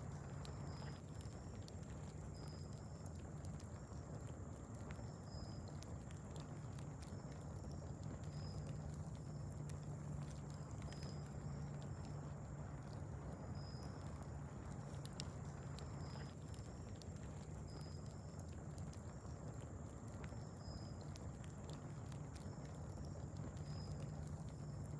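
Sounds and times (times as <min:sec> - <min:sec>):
steady low hum: 0:00.0 - 0:24.9
wood fire crackling: 0:00.0 - 0:24.9.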